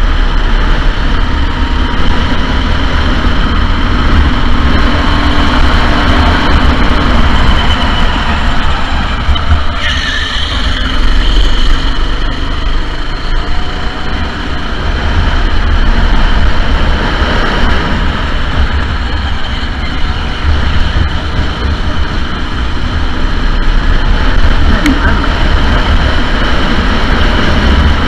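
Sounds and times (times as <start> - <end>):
go-kart engines: 0.0 - 28.0.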